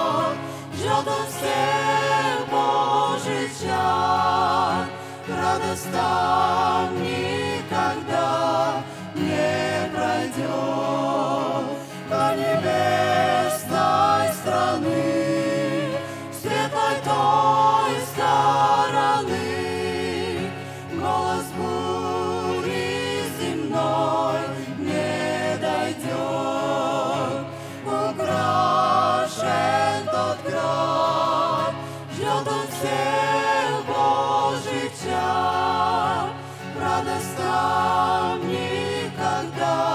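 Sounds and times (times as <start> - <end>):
acoustic guitar: 0.0 - 39.9
mixed choir singing a hymn: 0.0 - 39.9.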